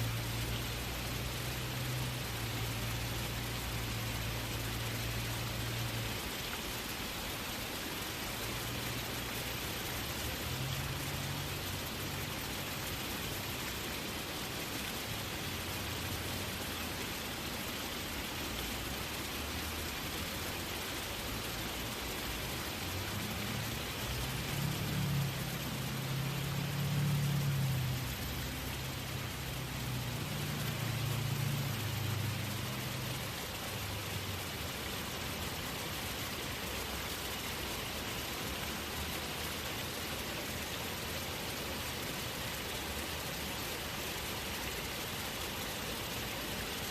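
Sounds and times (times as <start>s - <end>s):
small waterfall rushing: 0.0s - 46.9s.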